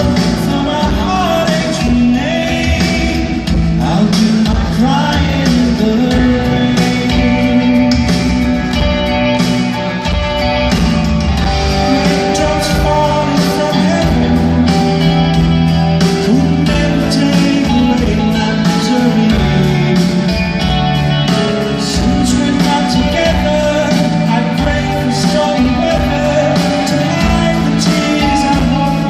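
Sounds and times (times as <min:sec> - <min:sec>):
person singing lead vocal: 0:00.0 - 0:10.1, 0:11.3 - 0:29.0
guitar: 0:00.0 - 0:29.0
live pop-rock band: 0:00.0 - 0:29.0.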